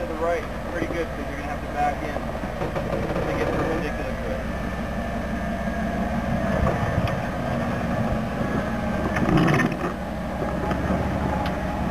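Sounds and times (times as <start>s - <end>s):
engine running at low speed: 0.0s - 11.9s
rush of noise: 2.0s - 11.9s.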